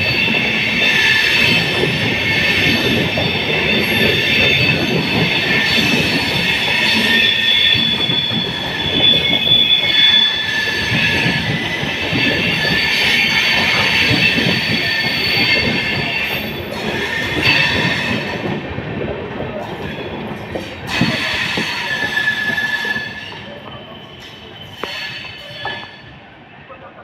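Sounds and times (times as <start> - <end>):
train wheels squealing: 0.0 - 18.6, 19.6 - 26.2
train bogies clattering: 0.0 - 26.2.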